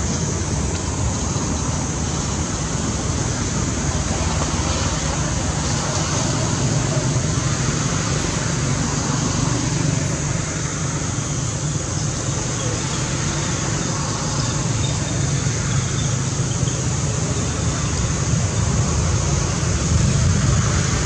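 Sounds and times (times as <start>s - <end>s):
continuous rushing hiss: 0.0s - 21.0s.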